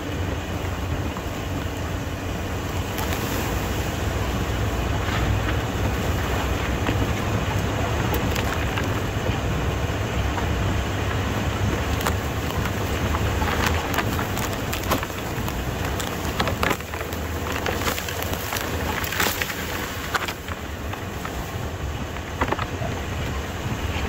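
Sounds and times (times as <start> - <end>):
car engine rumble: 0.0 - 24.0
dry stalks crackling against car: 0.0 - 24.0.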